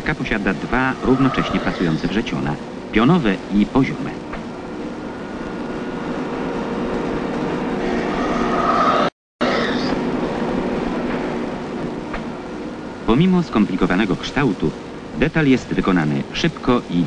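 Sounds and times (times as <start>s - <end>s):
machining centre hum and whine: 0.0s - 17.0s.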